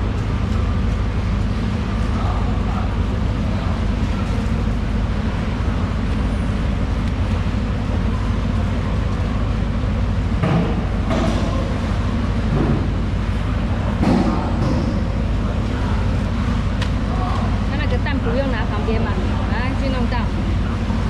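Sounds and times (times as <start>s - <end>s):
low machinery rumble: 0.0s - 21.0s.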